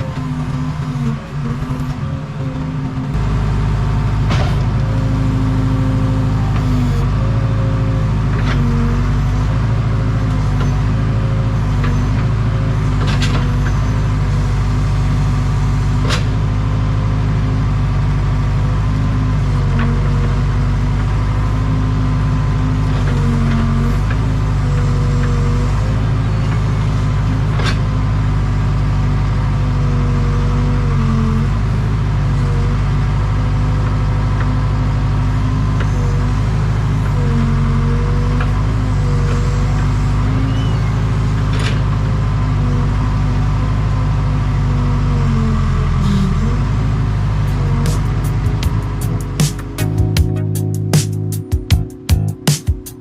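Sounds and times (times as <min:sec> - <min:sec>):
backhoe diesel engine running: 0:00.0 - 0:53.0.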